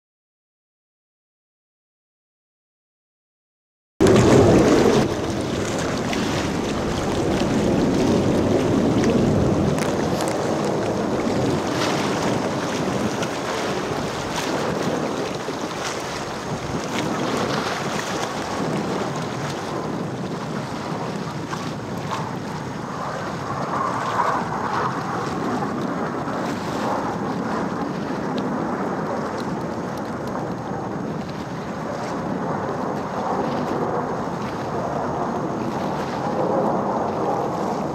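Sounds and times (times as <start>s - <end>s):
jet roar: 4.0s - 37.9s
wind buffeting microphone: 4.0s - 37.9s.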